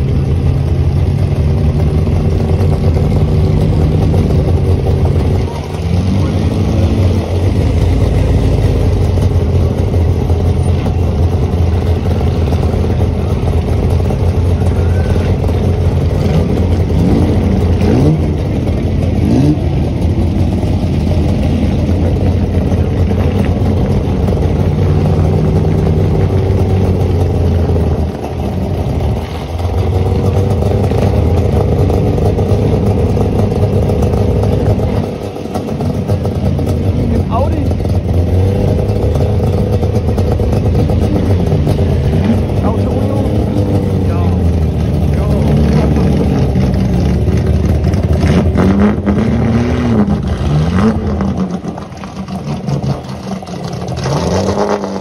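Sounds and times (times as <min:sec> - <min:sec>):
racing car engines idling: 0:00.0 - 0:55.0.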